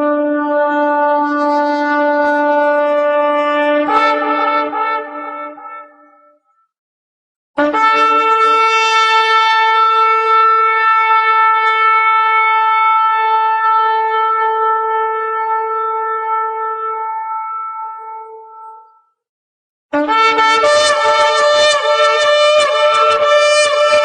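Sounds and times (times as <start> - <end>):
long horn blast: 0.0 - 6.2, 7.6 - 18.8, 20.0 - 24.0.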